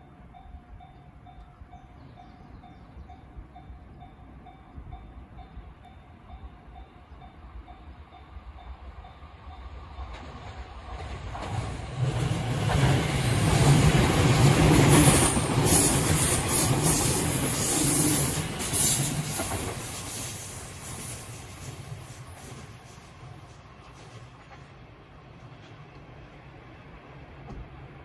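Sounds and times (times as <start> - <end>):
train wheels on rails passing: 0.0 - 28.0.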